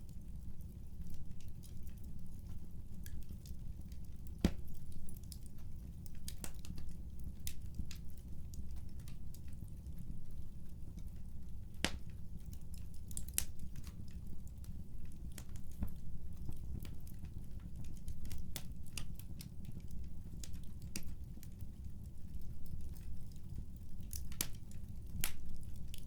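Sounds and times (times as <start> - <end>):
fireplace crackling: 0.0 - 26.0.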